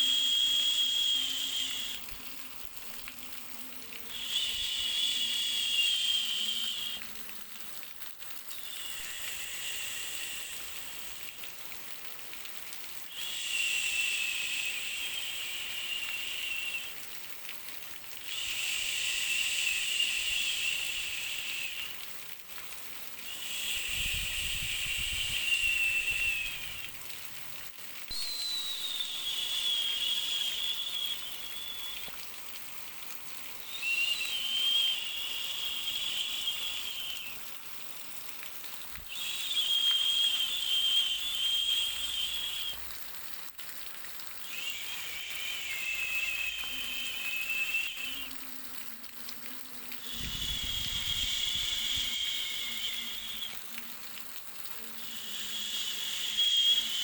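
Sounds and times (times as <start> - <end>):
whistling shushing hiss: 0.0 - 7.6, 8.4 - 11.6, 13.1 - 17.3, 18.1 - 22.2, 23.2 - 27.4, 28.1 - 32.8, 33.4 - 38.2, 38.9 - 43.1, 44.1 - 57.0
faint steady hiss: 0.0 - 57.0.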